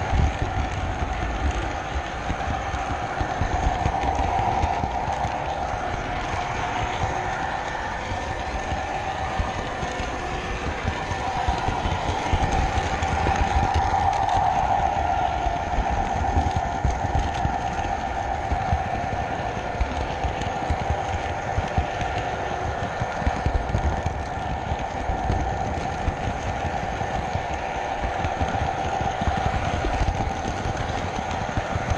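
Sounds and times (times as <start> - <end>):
train wheels clicking on track: 0.0 - 31.9.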